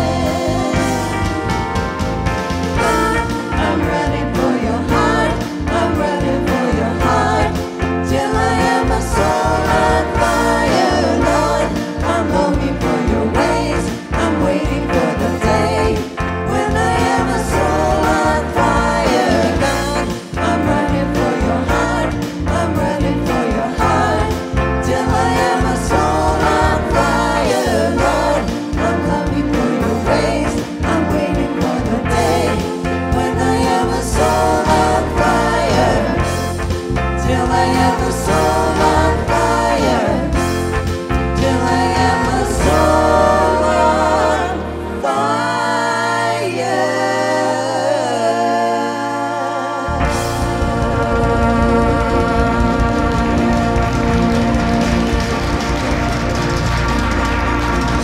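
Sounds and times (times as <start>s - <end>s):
women singing: 0.0s - 1.5s, 2.8s - 36.5s, 37.2s - 40.7s, 41.4s - 54.8s
worship band playing: 0.0s - 58.0s.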